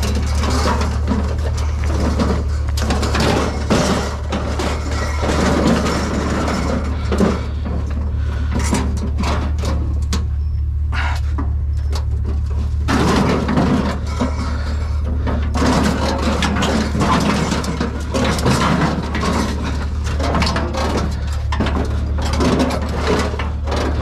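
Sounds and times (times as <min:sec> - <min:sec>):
metal grill rattling and scraping: 0:00.0 - 0:24.0
steady low hum: 0:00.0 - 0:24.0.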